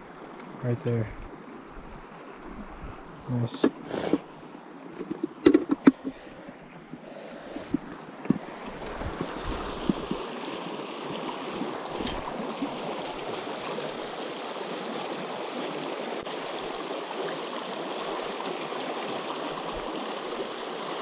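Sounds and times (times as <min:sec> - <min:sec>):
mountain stream rushing: 0:01.3 - 0:21.0.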